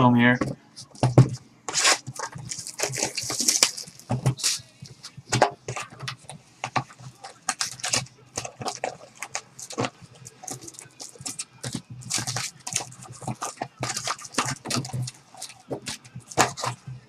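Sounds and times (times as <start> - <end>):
wrappers crinkling: 0.8 - 17.0.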